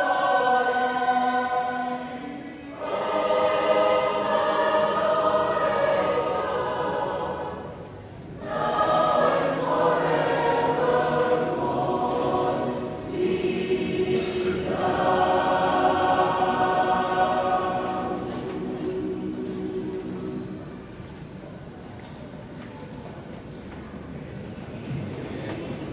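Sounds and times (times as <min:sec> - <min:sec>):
mixed choir singing: 0:00.0 - 0:21.6.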